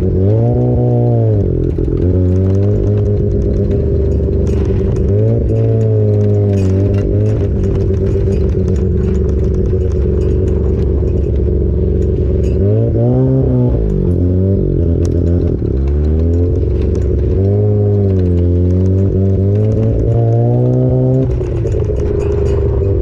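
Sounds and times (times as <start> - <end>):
clicks and rattles: 0.0 - 23.0
rotary engine running: 0.0 - 23.0.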